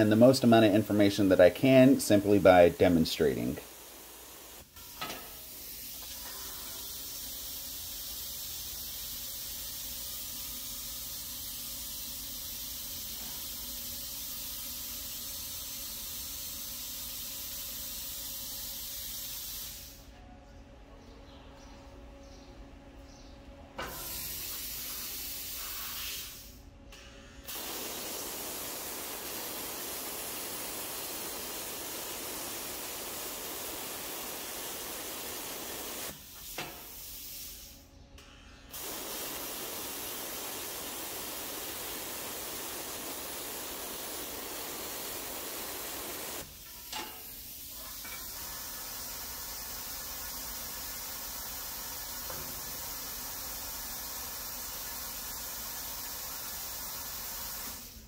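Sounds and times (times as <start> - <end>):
plasma cutter hissing: 0.0 - 20.1, 23.8 - 26.6, 27.5 - 37.8, 38.7 - 58.0.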